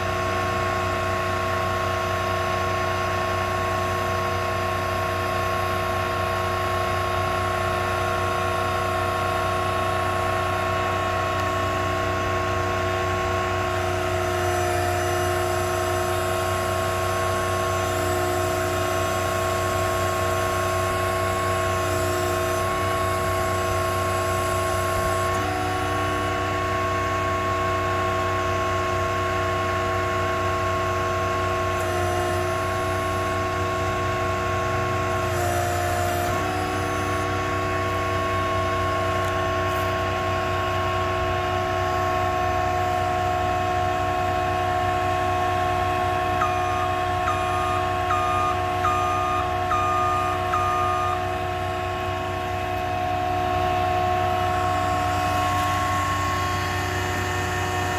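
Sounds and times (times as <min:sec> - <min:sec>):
crane mechanical hum and whine: 0:00.0 - 0:57.9.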